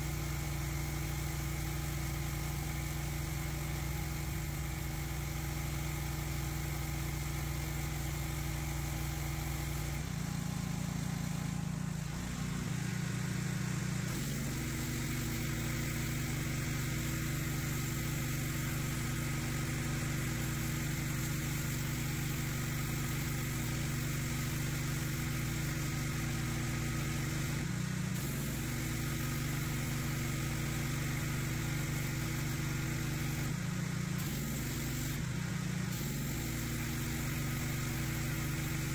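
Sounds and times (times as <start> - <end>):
pressure washer drone: 0.0 - 38.9
water jet hissing on concrete: 0.0 - 38.9.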